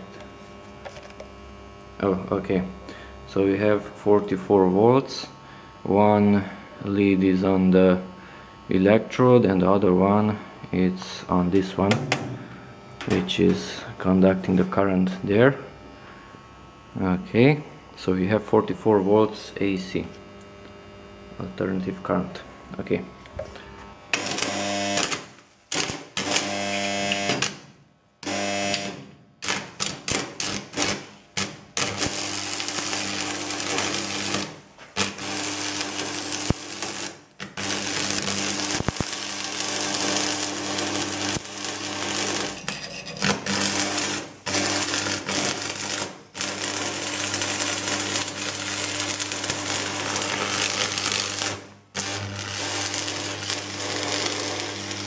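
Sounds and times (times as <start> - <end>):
low electrical buzz: 0.0 - 55.0
welding arc crackling: 0.0 - 55.0.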